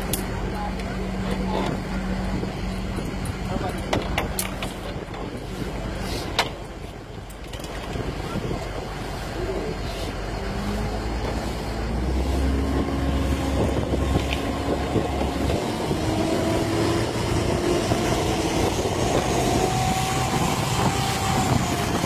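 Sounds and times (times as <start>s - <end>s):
boat engine running: 0.0s - 22.0s
water rushing past hull: 0.0s - 22.0s
wind buffeting microphone: 0.0s - 22.0s.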